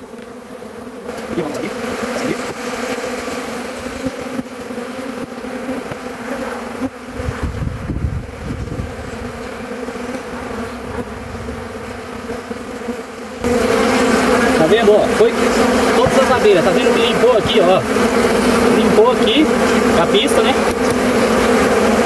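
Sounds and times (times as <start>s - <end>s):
honeybees buzzing: 0.0s - 22.0s.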